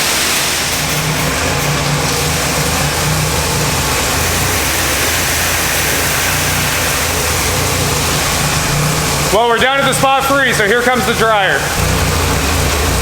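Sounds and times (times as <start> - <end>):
truck engine idling: 0.0 - 13.0
water jets spraying: 0.0 - 13.0.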